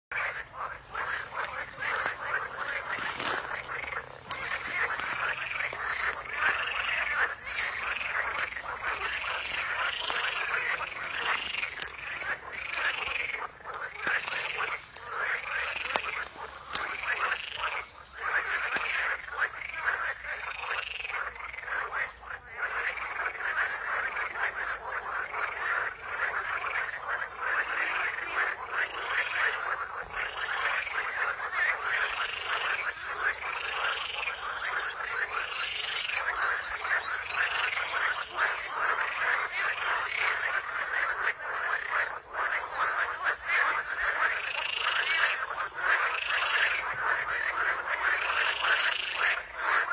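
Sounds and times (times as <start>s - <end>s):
chorus of frogs croaking: 0.1s - 49.9s.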